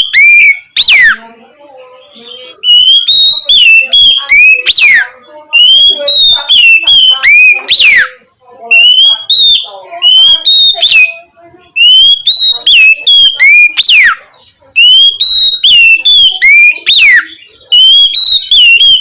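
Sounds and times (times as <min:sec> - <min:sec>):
bird whistled song: 0:00.0 - 0:01.2, 0:02.0 - 0:19.0.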